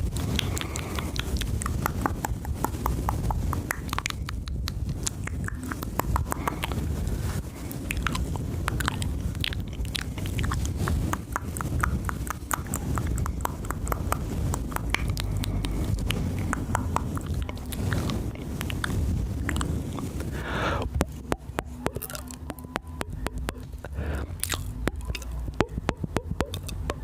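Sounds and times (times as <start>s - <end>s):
steady low rumble: 0.0s - 27.0s
wet tongue and lip clicks: 0.0s - 27.0s.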